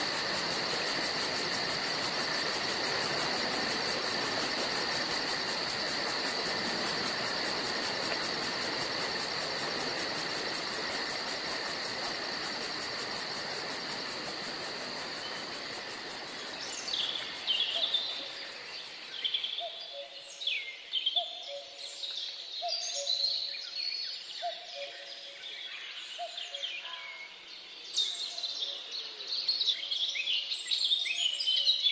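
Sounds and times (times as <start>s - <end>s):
insect-like pulsing hiss: 0.0s - 31.8s.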